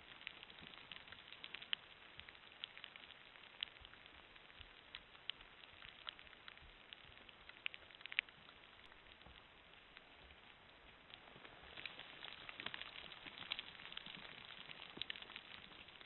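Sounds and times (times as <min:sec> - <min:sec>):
rain hiss: 0:00.0 - 0:16.0
raindrop ticks: 0:00.0 - 0:16.0.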